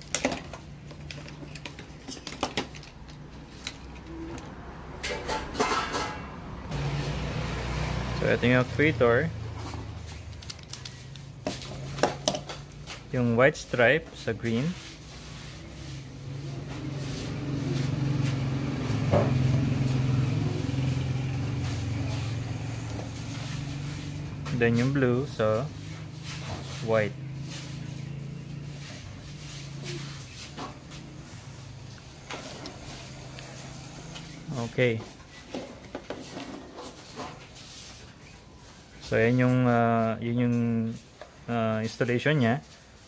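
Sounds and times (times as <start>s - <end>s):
vehicle engine humming: 0.0s - 13.4s, 14.3s - 36.1s.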